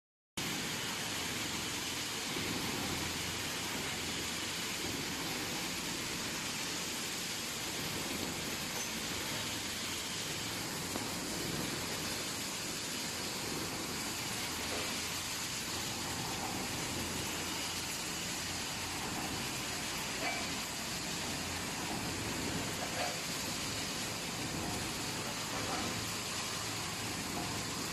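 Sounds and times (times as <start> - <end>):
welding machine running: 0.4 - 27.9.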